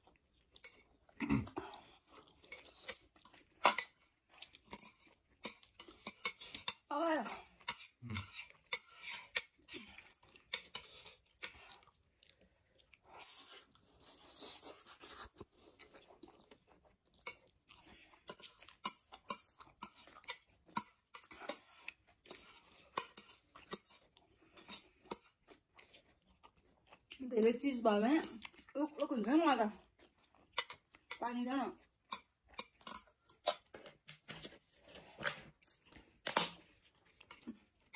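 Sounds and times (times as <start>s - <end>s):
chewing and slurping noodles: 0.0s - 27.5s, 28.2s - 37.9s.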